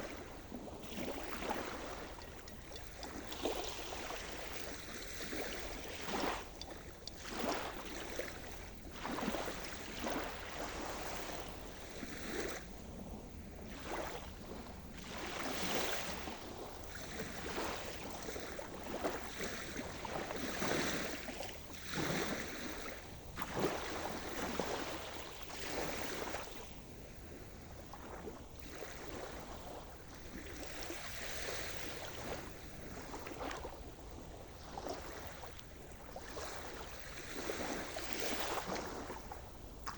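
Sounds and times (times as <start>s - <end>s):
small waves breaking: 0.0s - 39.9s.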